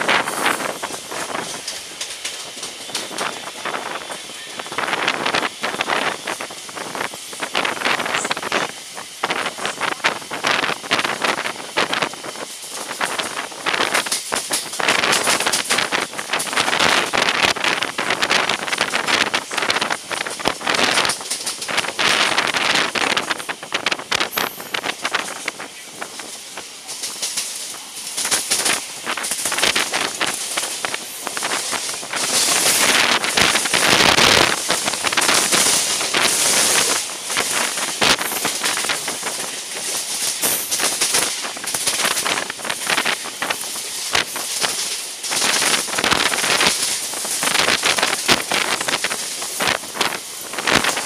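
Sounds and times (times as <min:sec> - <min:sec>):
train wheels clattering over rail joints: 0:00.0 - 0:51.0.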